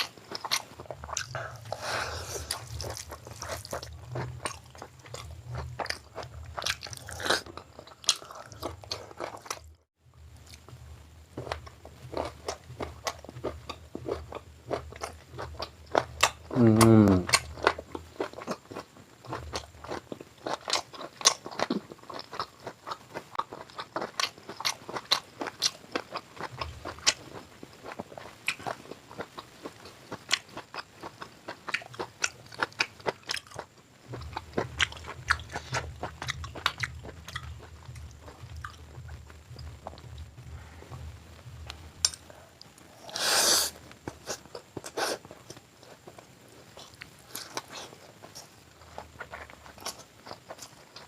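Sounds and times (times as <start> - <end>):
person chewing food: 0.0 - 51.0.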